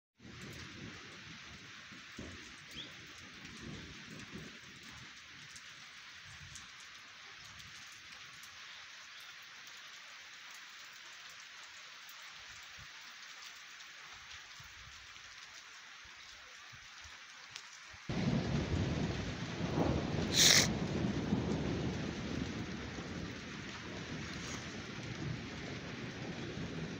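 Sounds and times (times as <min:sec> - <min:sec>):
rain hissing: 0:00.2 - 0:26.9.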